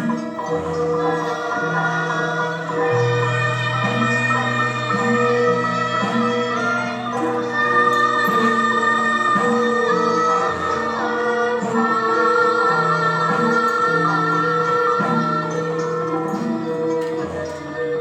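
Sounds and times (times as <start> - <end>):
gamelan music: 0.0 - 18.0.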